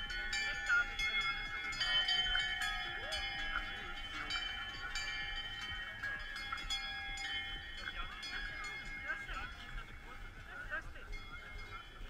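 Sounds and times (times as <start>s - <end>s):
cowbells clanging: 0.0s - 12.0s.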